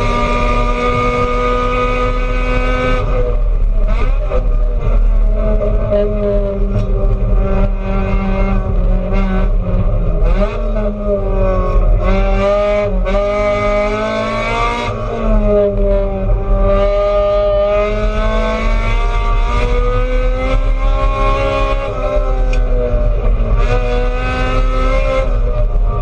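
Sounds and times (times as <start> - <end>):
race car engine accelerating: 0.0 - 26.0.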